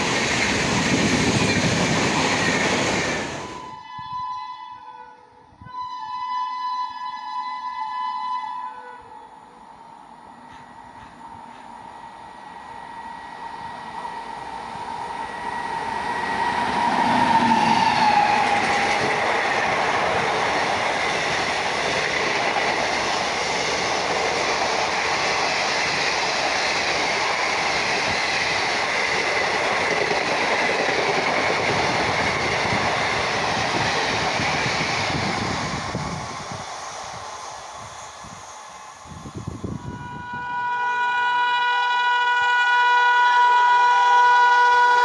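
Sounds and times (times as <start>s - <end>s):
train coaches rumbling past: 0.0s - 4.3s, 8.4s - 45.0s
electric locomotive passing: 0.0s - 45.0s.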